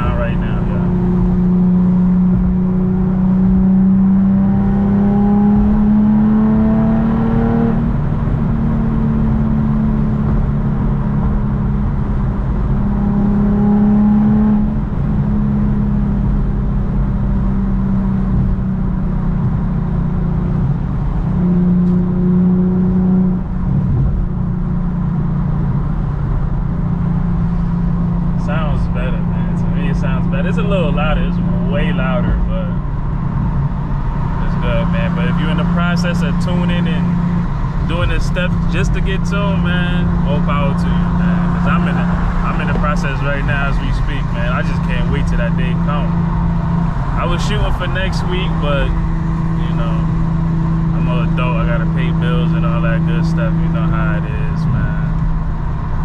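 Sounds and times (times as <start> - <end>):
loud car exhaust revving: 0.0 - 56.0.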